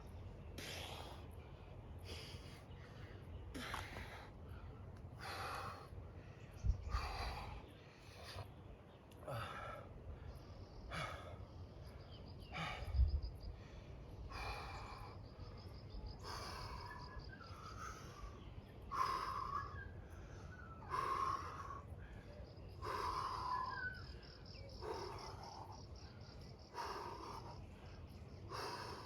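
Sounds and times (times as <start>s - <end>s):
man breathing hard: 0.6s - 8.6s, 9.2s - 29.0s
crickets chirping: 2.1s - 8.5s, 9.3s - 29.0s.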